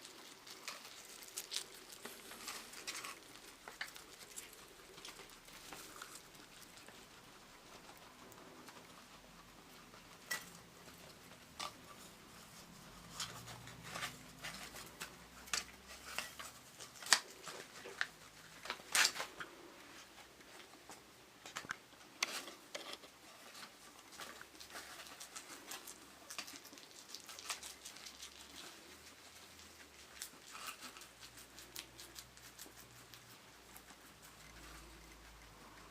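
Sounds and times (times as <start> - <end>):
guinea pigs gnawing and crunching: 0.0 - 35.9.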